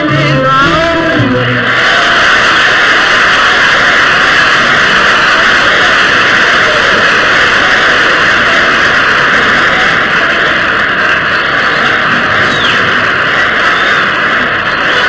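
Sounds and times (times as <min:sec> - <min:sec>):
audience applauding: 0:00.8 - 0:15.0.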